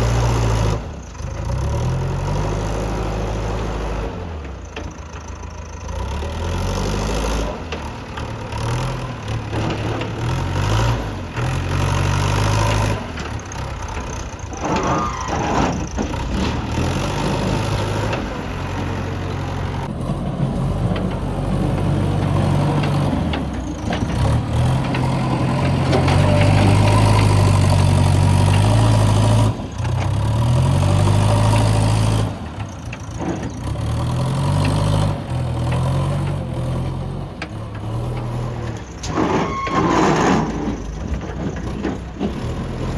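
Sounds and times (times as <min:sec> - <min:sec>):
backhoe diesel engine working: 0:00.0 - 0:42.9.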